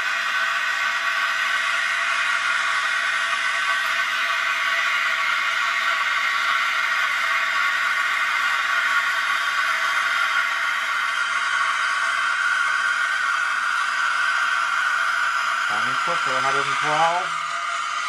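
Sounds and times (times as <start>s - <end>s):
steam wand hissing: 0.0s - 18.0s.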